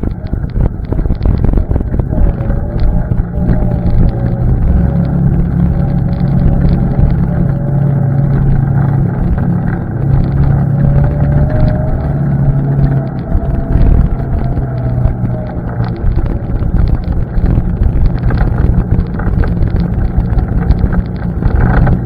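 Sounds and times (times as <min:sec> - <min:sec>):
quad bike engine running: 0:00.0 - 0:22.0
rattling ticks: 0:00.0 - 0:22.0.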